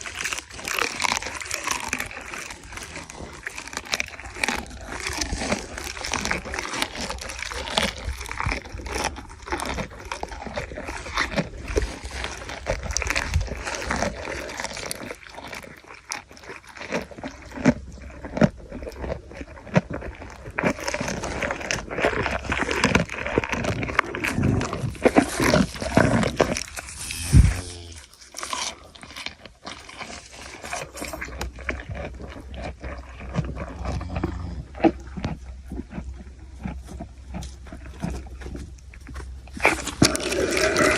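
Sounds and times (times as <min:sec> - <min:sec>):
camel chewing food: 0:00.0 - 0:40.9.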